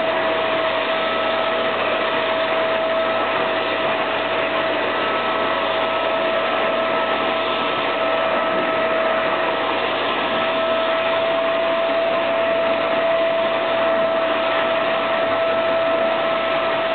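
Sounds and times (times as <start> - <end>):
vacuum cleaner running: 0.0 - 16.9.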